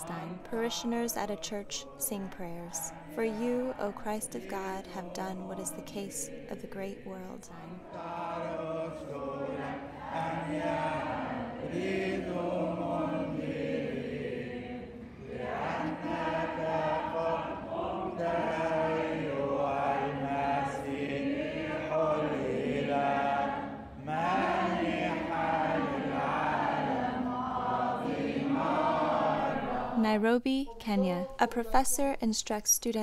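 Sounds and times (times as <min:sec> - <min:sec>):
congregation singing a chant: 0:00.0 - 0:30.2.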